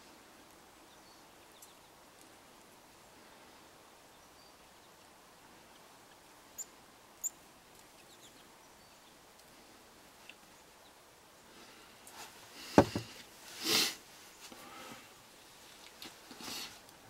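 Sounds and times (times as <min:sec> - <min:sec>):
faint outdoor hush: 0:00.0 - 0:17.0.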